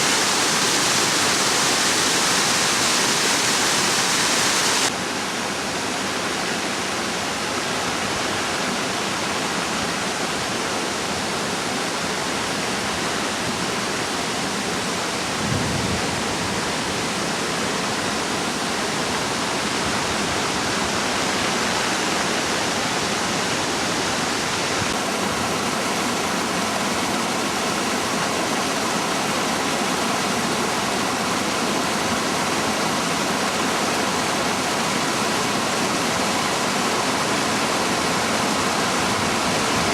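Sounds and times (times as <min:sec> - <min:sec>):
water rushing down ravine: 0:00.0 - 0:39.9.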